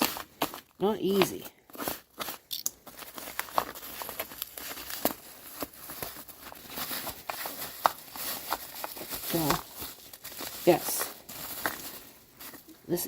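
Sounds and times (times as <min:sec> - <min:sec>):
packing material crinkling: 0:00.0 - 0:13.0.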